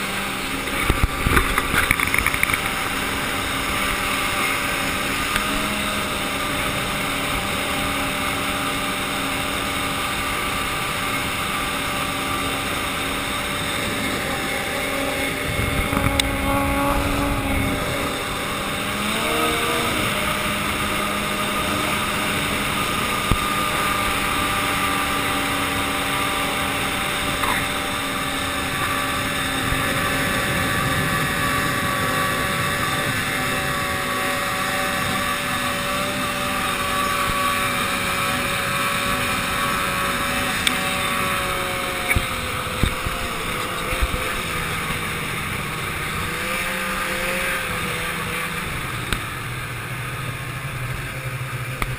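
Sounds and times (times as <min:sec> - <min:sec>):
snowmobile engine running: 0:00.0 - 0:51.9.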